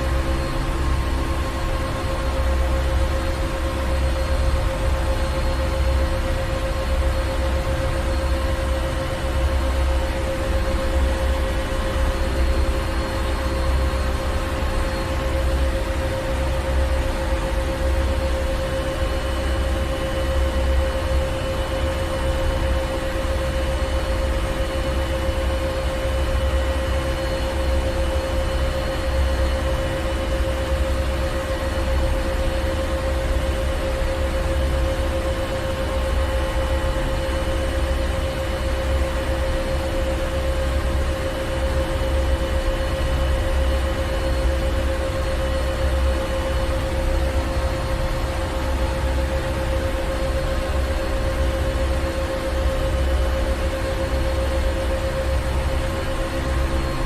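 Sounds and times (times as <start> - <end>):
engine room machinery running: 0.0 - 57.0.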